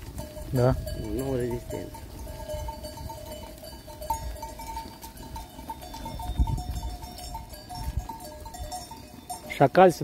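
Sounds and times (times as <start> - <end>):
sheep bells clinking: 0.0 - 10.0.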